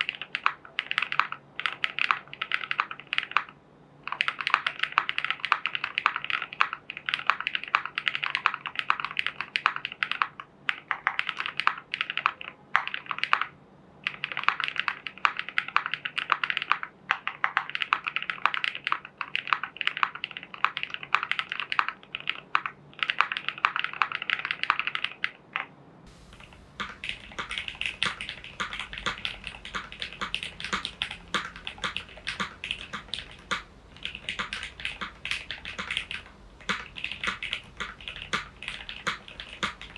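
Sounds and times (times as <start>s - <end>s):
mechanical keyboard clacks: 0.0s - 25.4s, 26.3s - 39.9s.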